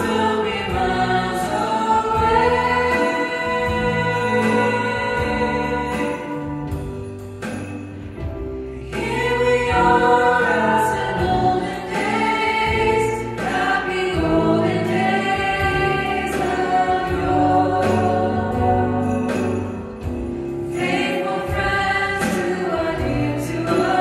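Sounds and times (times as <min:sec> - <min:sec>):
group singing with band: 0:00.0 - 0:07.0, 0:08.8 - 0:24.0.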